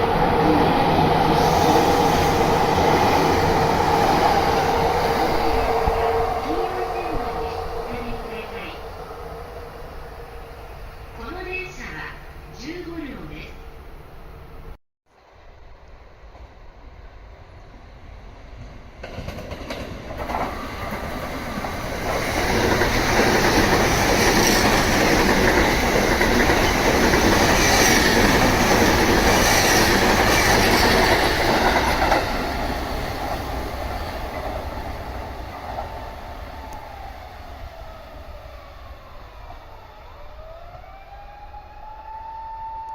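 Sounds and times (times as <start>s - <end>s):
train wheels on rails passing: 0.0s - 12.6s, 14.2s - 42.9s.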